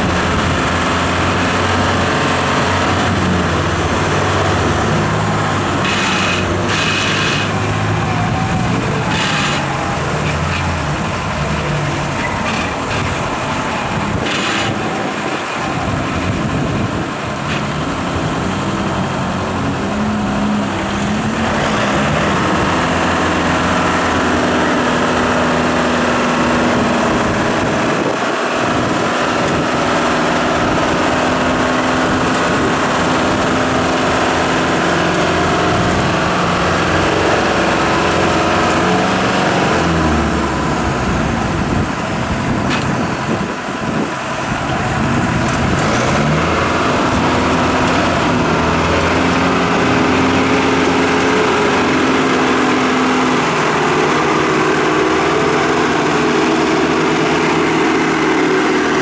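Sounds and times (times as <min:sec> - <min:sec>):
off-road engines under load: 0:00.0 - 0:59.0.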